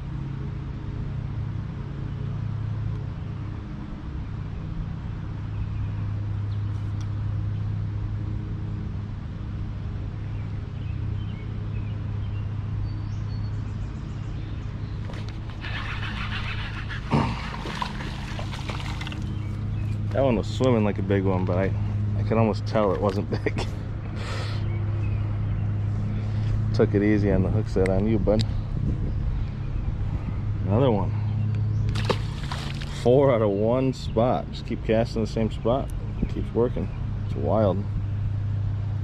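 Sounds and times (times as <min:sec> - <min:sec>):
low engine-like hum: 0:00.0 - 0:39.0.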